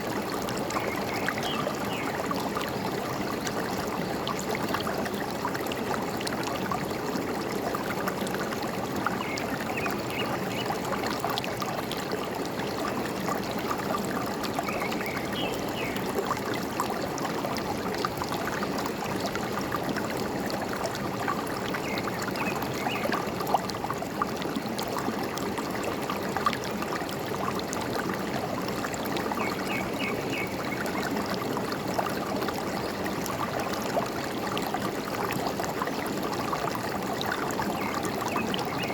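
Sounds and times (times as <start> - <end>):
stream gurgling over rocks: 0.0 - 38.9.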